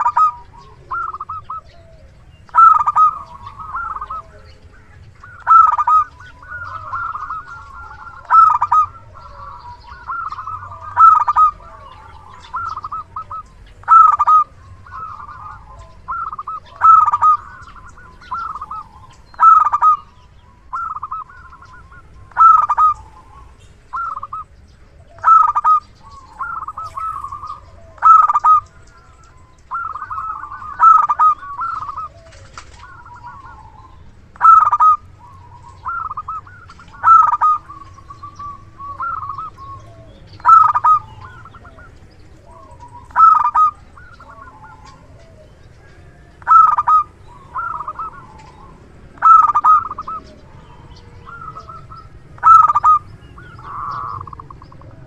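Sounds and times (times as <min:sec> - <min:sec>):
zebra dove cooing: 0:00.0 - 0:55.0.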